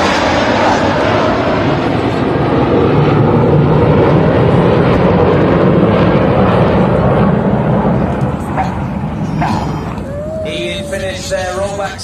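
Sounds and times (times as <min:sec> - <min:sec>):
jet roar: 0:00.0 - 0:12.0.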